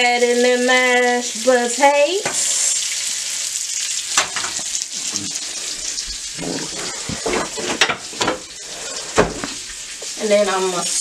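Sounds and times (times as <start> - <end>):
pork searing in a hot pan: 0.0 - 11.0.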